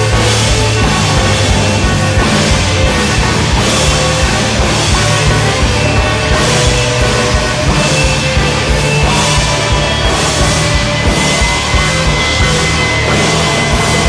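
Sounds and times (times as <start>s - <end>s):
drum kit hits: 0.0s - 14.0s
loud noise rock band: 0.0s - 14.0s
low drones: 0.0s - 14.0s.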